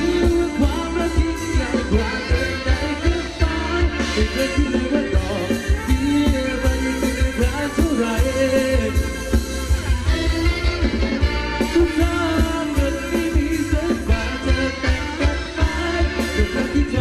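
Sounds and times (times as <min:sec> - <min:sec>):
person singing: 0:00.0 - 0:09.1, 0:11.7 - 0:17.0
band playing dance song: 0:00.0 - 0:17.0.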